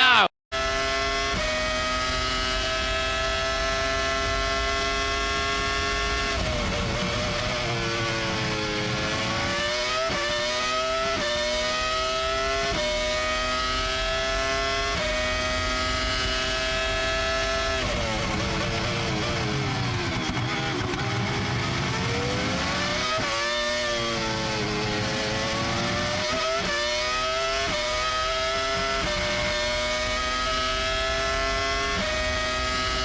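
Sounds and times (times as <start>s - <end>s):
racing car engine revving: 0.5s - 33.0s.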